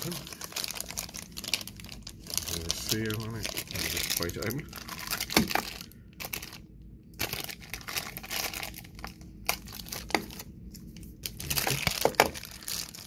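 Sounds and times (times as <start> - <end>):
plastic bag crinkling: 0.0 - 6.6, 7.2 - 13.0.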